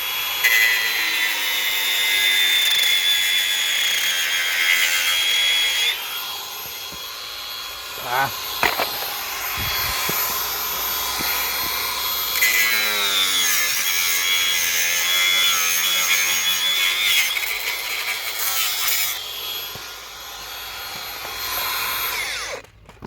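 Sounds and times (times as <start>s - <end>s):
angle grinder cutting: 0.0s - 22.8s.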